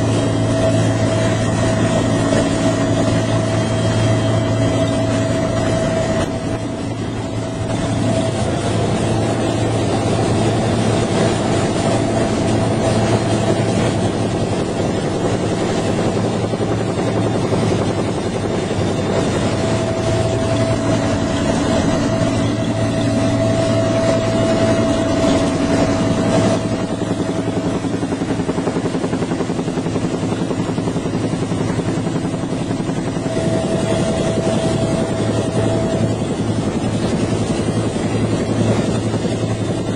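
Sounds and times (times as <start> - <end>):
helicopter turbine and rotor: 0.0 - 39.9
steady whine: 0.0 - 39.9.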